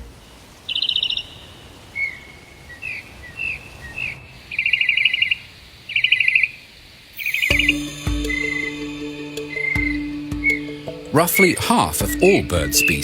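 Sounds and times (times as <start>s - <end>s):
songbird trilling: 0.7s - 6.6s, 7.2s - 13.0s.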